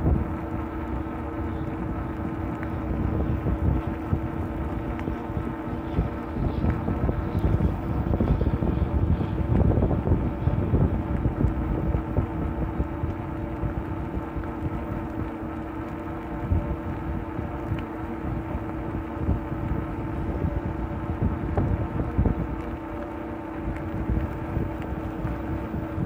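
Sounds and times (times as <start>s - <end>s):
electric bike hum: 0.0s - 26.0s
wind buffeting microphone: 0.0s - 26.0s.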